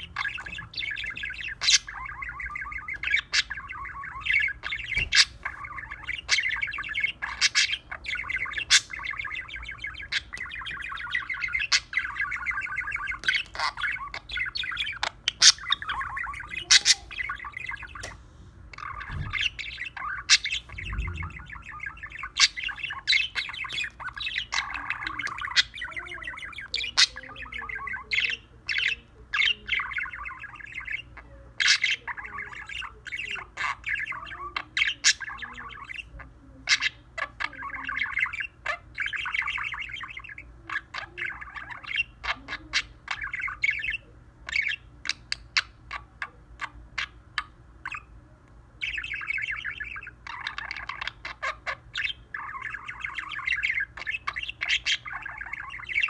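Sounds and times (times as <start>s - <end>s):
budgerigar warbling: 0.0s - 18.1s, 18.7s - 48.1s, 48.8s - 56.0s.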